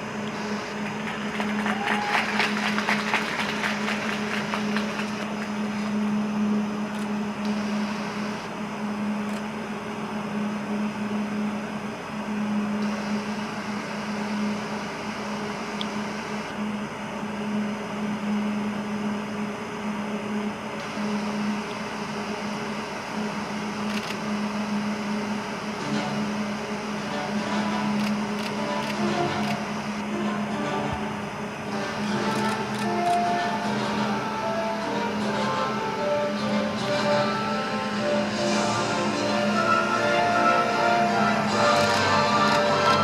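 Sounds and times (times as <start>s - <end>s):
ventilation plant mechanical hum: 0.0s - 43.0s.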